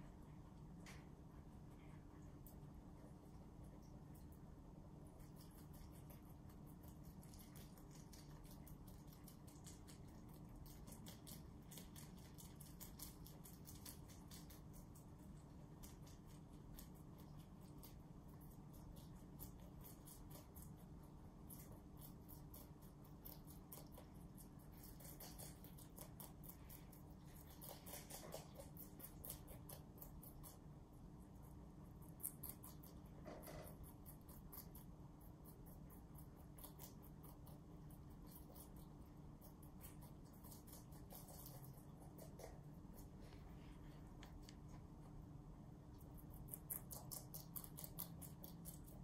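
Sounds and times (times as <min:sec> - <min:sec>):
rabbits chewing greens: 0:00.0 - 0:49.0.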